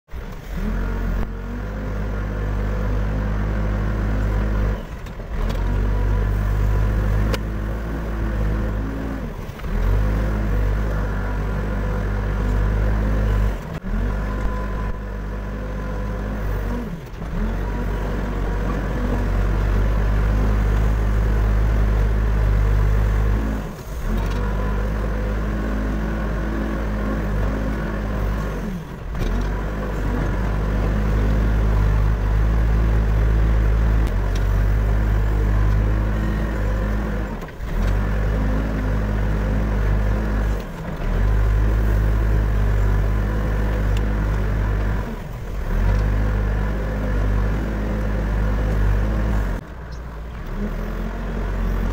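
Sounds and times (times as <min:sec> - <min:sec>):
diesel engine running: 0:00.1 - 0:51.9.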